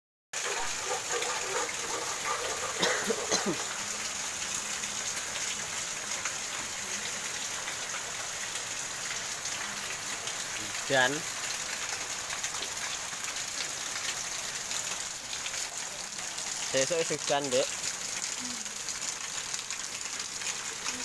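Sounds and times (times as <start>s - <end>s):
rain falling on roofs: 0.4s - 21.0s.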